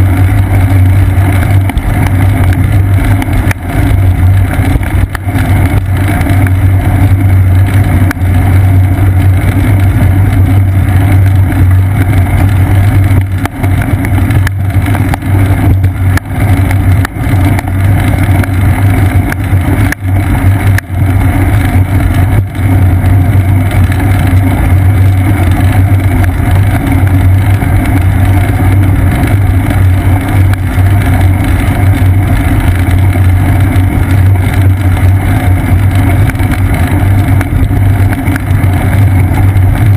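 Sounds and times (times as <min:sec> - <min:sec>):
road and wind rumble: 0:00.0 - 0:39.9.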